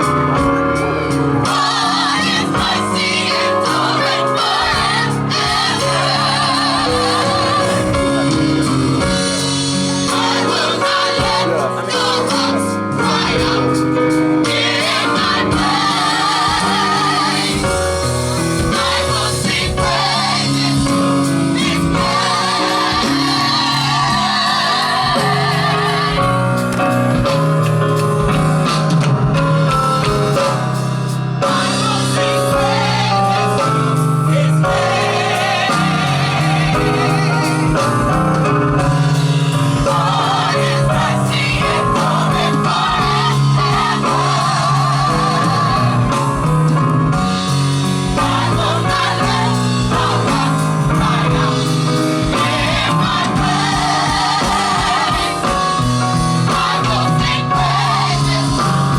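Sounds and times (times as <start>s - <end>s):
bass: 0.0s - 58.9s
drum kit beat: 0.0s - 58.9s
singers: 0.0s - 58.9s.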